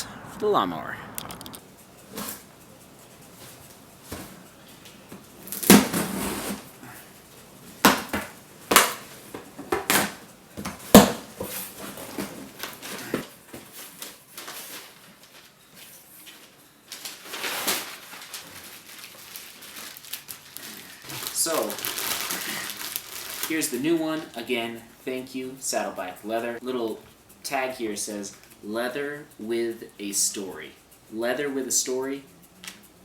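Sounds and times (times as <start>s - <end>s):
rustling: 0.0s - 33.0s.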